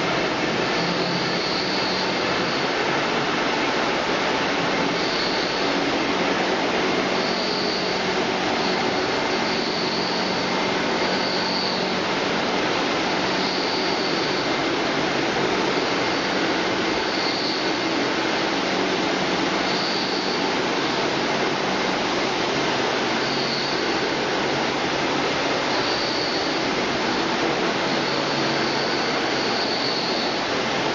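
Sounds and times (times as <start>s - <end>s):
constant low hum: 0.0s - 30.9s
machinery rushing noise: 0.0s - 30.9s.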